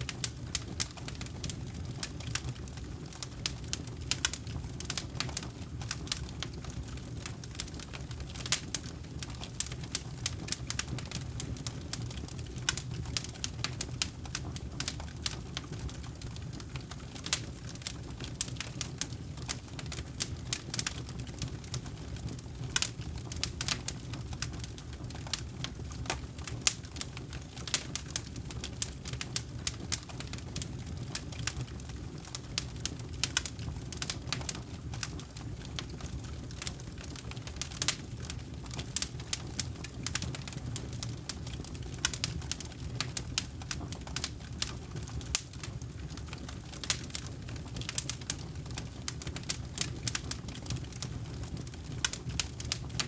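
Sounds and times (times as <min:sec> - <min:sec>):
low rumble of flames: 0:00.0 - 0:53.0
wood crackling and popping: 0:00.0 - 0:53.0.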